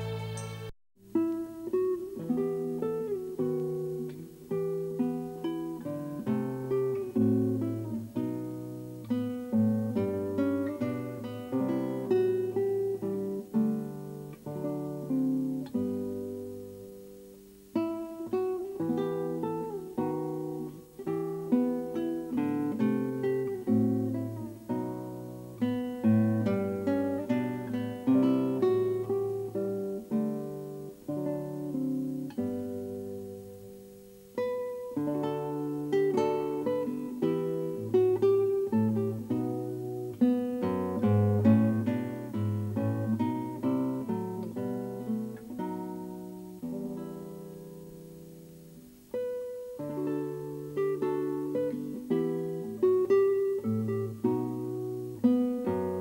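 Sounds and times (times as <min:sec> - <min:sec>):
plucked acoustic guitar: 0:00.0 - 0:56.0.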